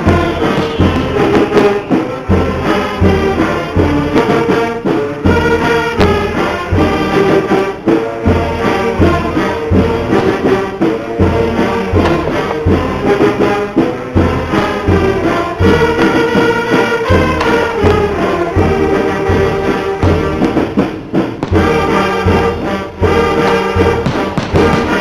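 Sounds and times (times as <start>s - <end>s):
music with steady beat: 0.0s - 25.0s.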